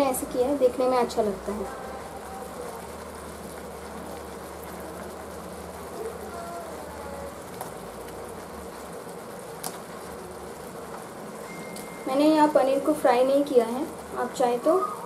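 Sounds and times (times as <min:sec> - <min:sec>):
gravy sizzling in a pan: 0:00.0 - 0:15.0.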